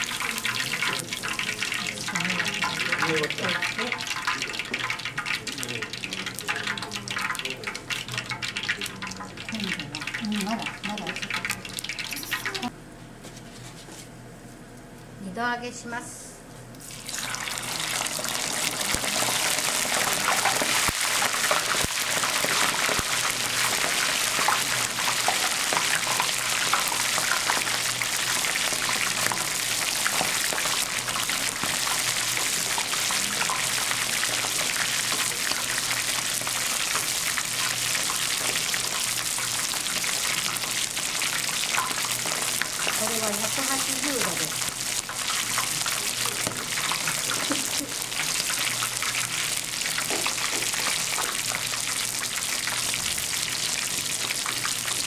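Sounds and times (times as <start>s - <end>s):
fish deep-frying in sizzling oil: 0.0s - 12.7s, 16.8s - 55.0s.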